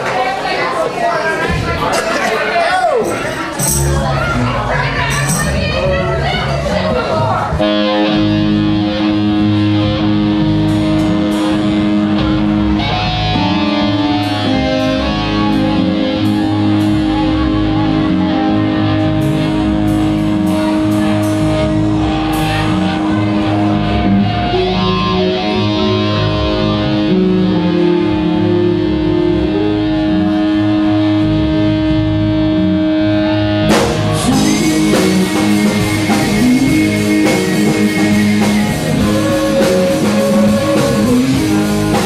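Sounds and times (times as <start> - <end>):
rock band playing: 1.3 - 42.0
electric guitar sustained notes: 3.0 - 42.0.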